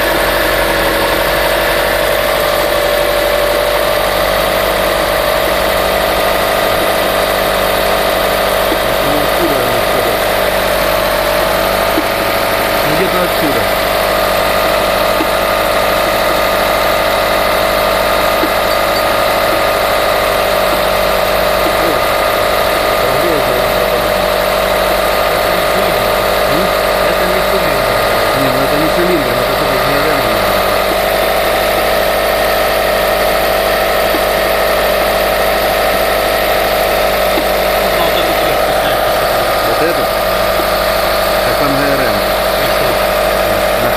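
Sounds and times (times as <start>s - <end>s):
car engine idling: 0.0s - 43.9s
steady engine knock: 0.0s - 43.9s.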